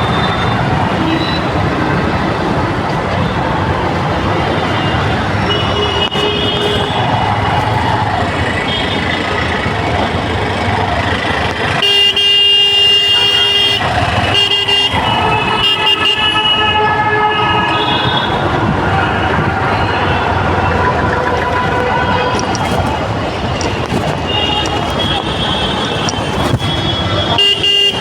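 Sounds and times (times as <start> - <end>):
car horns honking: 0.0 - 7.9, 11.6 - 28.0
car engines running: 0.0 - 28.0.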